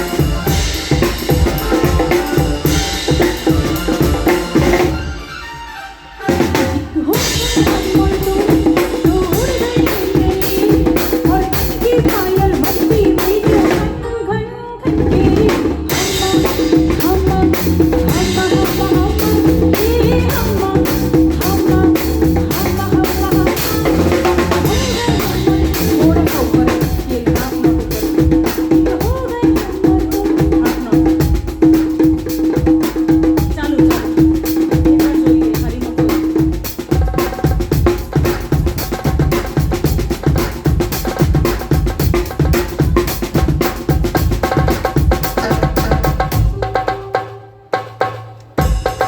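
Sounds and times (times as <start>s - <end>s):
drum kit beat: 0.0s - 14.1s, 14.9s - 49.0s
live band music: 0.0s - 49.0s.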